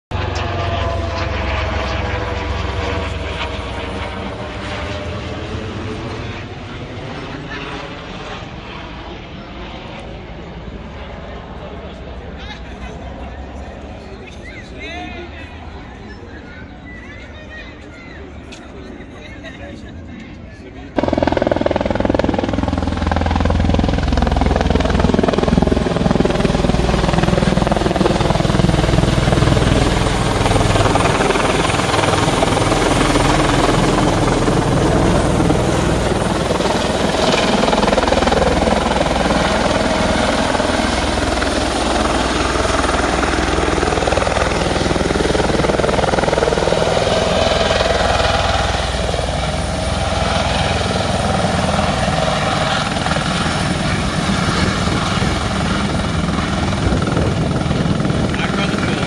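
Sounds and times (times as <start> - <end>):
helicopter rotor and turbine: 0.1 - 14.8, 15.5 - 59.0.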